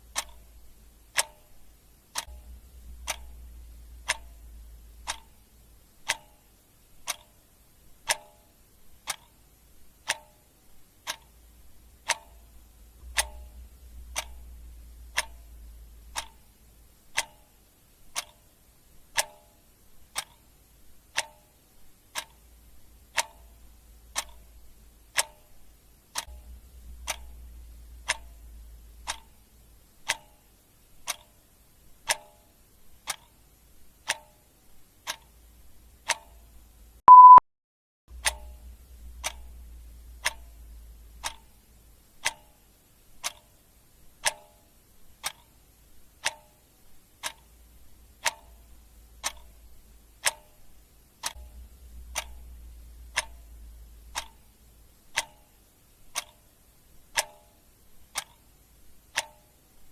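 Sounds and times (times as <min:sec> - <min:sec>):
clock ticking: 0:00.0 - 0:37.4, 0:38.1 - 0:59.9.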